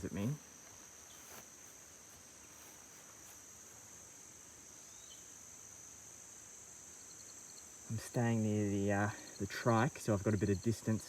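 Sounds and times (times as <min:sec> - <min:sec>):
insect chorus drone: 0:00.0 - 0:11.0
short insect chirp: 0:00.0 - 0:11.0.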